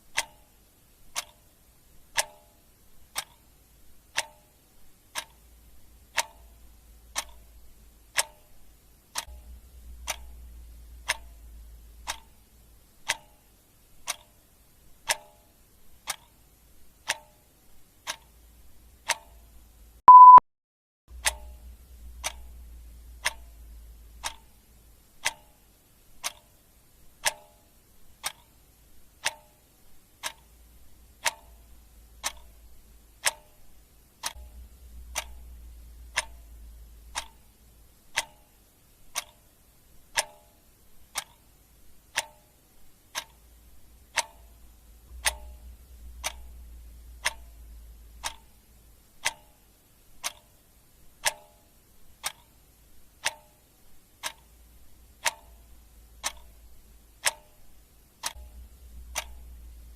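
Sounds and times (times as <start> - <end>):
clock ticking: 0.0 - 20.4, 21.1 - 59.9.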